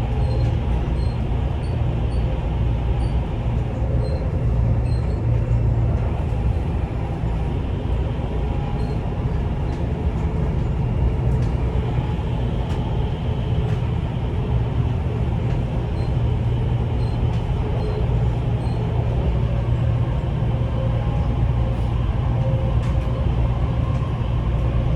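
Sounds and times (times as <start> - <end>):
train rumble inside carriage: 0.0 - 24.9.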